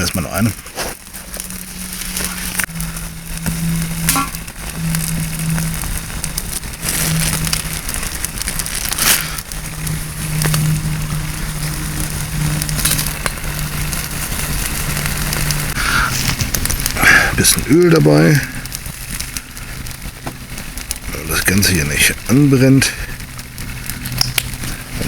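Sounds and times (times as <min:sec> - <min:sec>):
low steady hum: 0:00.0 - 0:25.0
wood fire crackling and popping: 0:00.0 - 0:25.0.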